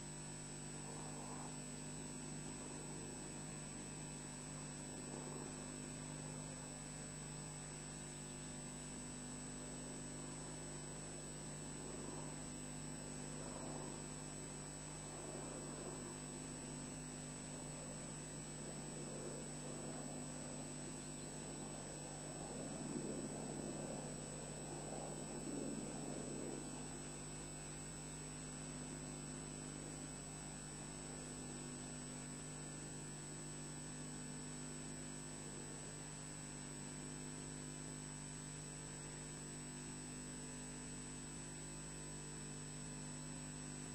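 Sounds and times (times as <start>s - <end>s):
steady electrical hum: 0.0s - 43.9s.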